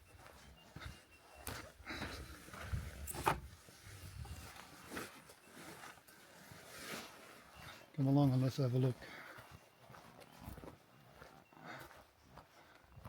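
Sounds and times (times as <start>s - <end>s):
footsteps on ground: 0.0s - 6.6s, 7.7s - 13.0s.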